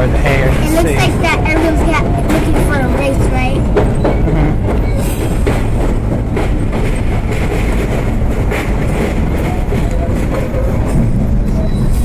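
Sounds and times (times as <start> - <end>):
train wheels rumbling on rail: 0.0 - 12.0
wheels clacking over rail joints: 0.0 - 12.0.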